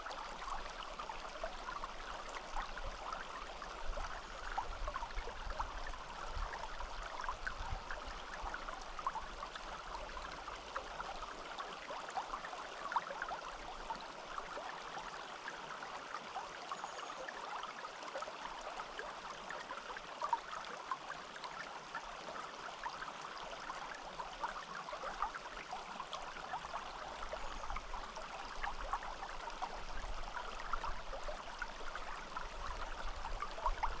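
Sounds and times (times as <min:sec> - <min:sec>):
stream trickling over stones: 0:00.0 - 0:34.0.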